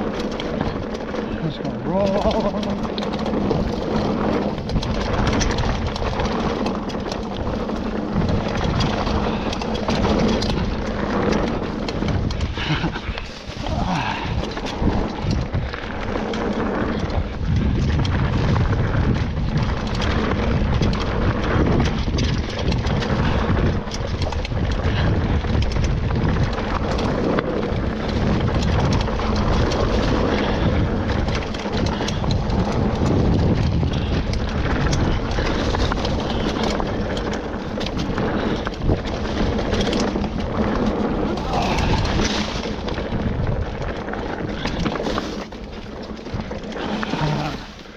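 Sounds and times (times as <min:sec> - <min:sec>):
chain and frame clatter: 0:00.0 - 0:47.9
tyre roar over dirt: 0:00.0 - 0:47.9
wind on microphone: 0:00.0 - 0:47.9.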